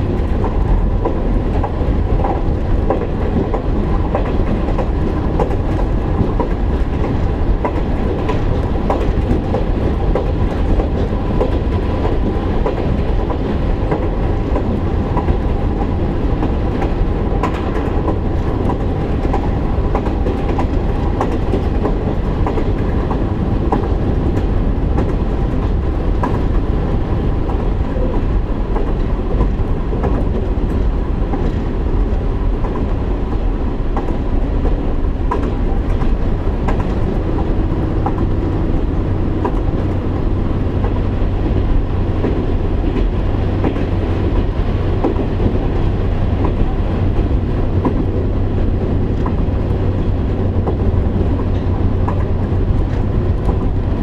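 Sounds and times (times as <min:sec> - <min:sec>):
diesel engine and wheels droning: 0:00.0 - 0:54.0
wheels clicking over rail joints: 0:00.0 - 0:54.0.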